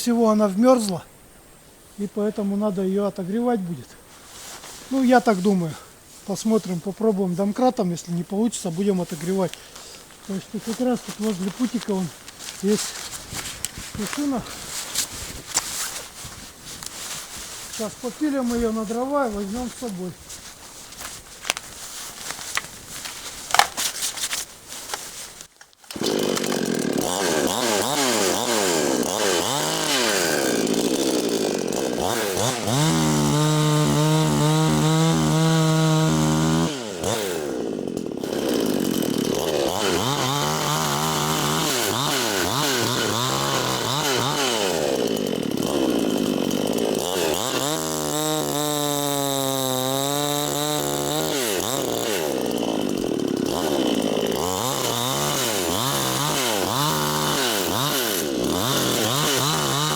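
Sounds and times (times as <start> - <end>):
chainsaw cutting wood: 8.8 - 59.9.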